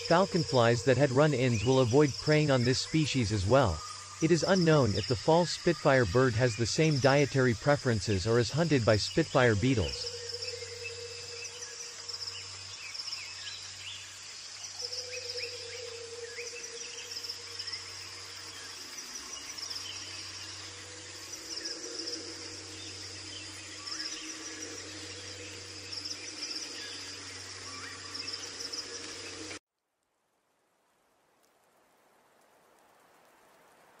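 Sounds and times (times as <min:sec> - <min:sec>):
insects buzzing and trilling: 0:00.0 - 0:29.6.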